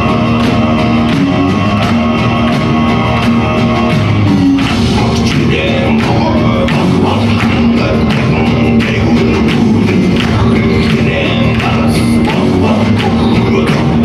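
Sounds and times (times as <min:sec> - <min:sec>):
folk metal song: 0:00.0 - 0:14.0
steady drum beat: 0:00.0 - 0:14.0
voices singing: 0:00.0 - 0:14.0.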